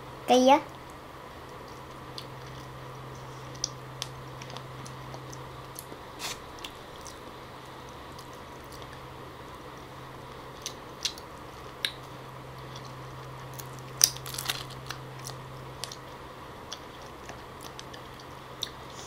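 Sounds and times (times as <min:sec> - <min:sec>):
faint low hum: 0:00.0 - 0:19.0
person chewing with wet smacks: 0:01.4 - 0:09.1, 0:10.6 - 0:14.2, 0:14.9 - 0:19.0.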